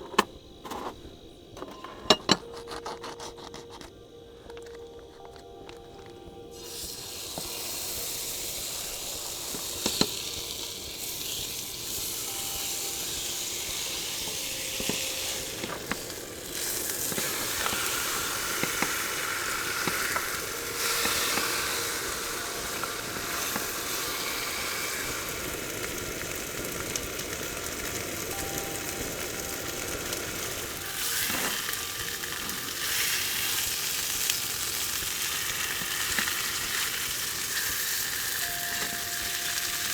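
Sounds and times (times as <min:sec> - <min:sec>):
food sizzling in a pan: 0:06.5 - 0:39.9.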